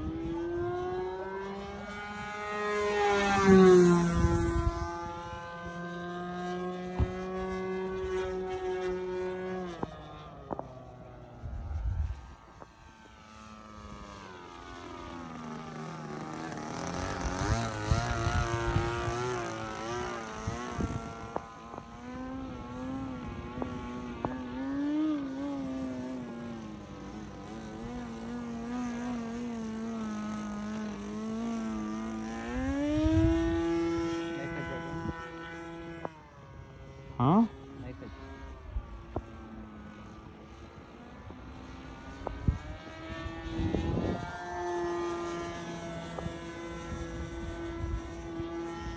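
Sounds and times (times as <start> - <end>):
model airplane engine buzzing: 0.0 - 48.9.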